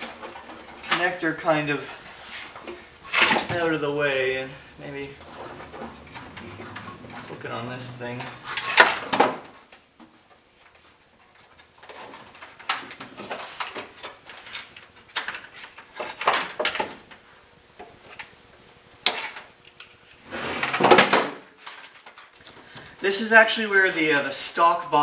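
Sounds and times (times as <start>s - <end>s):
rustling and scraping of tools: 0.0s - 18.3s, 19.1s - 24.4s.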